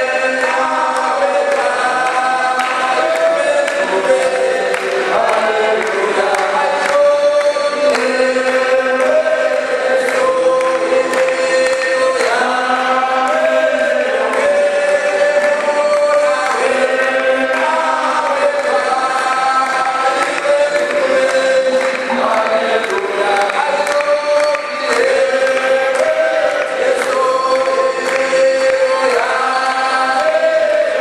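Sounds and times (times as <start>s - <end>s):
hand claps keeping time: 0.0s - 31.0s
lead voice through a microphone: 0.0s - 31.0s
men's choir singing a hymn: 0.0s - 31.0s.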